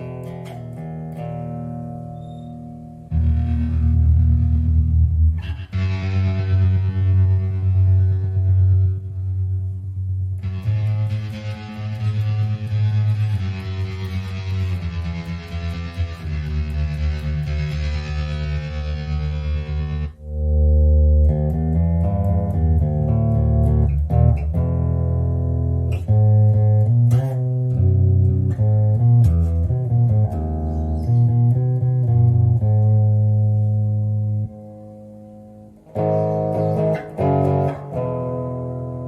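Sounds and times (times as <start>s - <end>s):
electric bass guitar riff: 0.0s - 39.0s.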